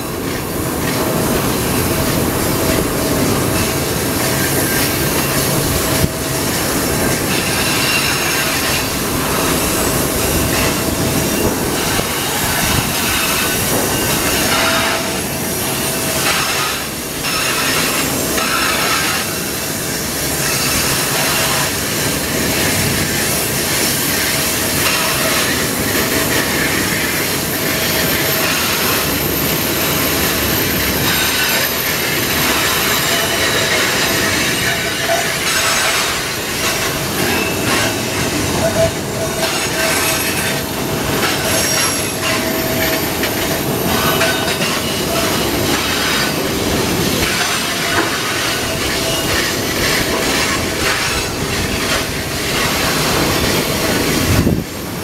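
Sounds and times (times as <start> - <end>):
train wheels rumbling on rails: 0.0 - 55.0
wheel squeal: 1.8 - 54.6.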